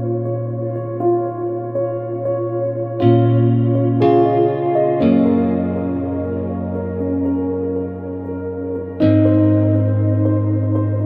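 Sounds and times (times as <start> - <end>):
ambient meditation music: 0.0 - 11.0.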